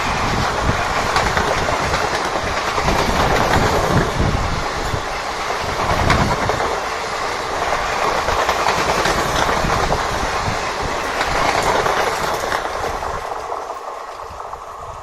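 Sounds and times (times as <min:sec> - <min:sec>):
rush of rolling train: 0:00.0 - 0:15.0
wheels clattering over rail joints: 0:00.0 - 0:15.0.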